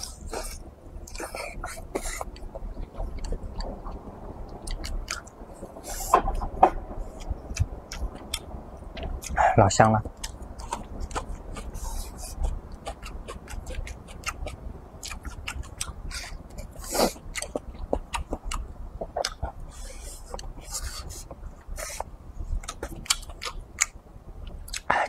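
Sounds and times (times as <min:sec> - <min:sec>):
wet chewing and lip-smacking: 0:00.0 - 0:06.4, 0:07.1 - 0:09.4, 0:10.0 - 0:24.9.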